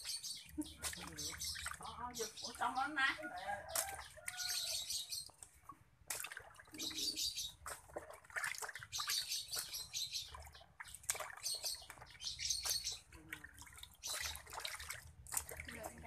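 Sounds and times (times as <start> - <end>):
water splashing in plastic tub: 0.0 - 16.0.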